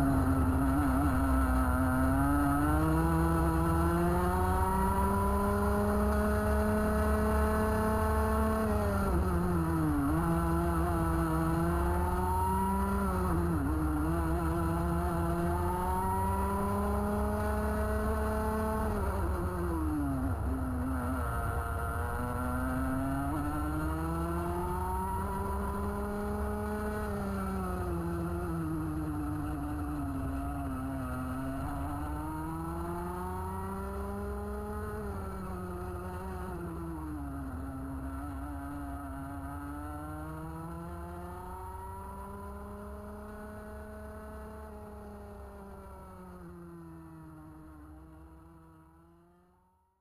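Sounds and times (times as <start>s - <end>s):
kart engine accelerating: 0.0s - 49.5s.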